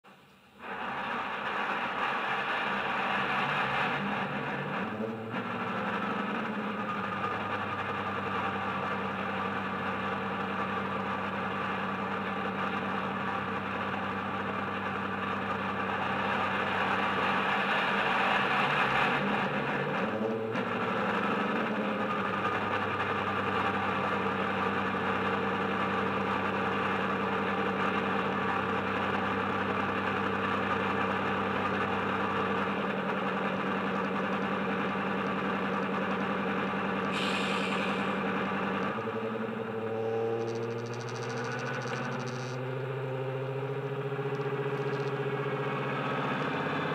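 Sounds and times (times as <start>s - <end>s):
diesel engine idling through speaker: 0.1s - 46.9s.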